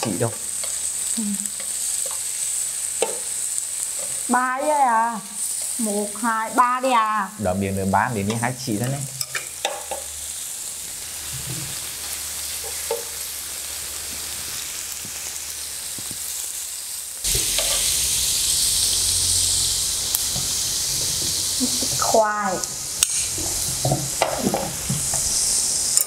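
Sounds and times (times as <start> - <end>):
pork sizzling in oil: 0.0 - 26.0.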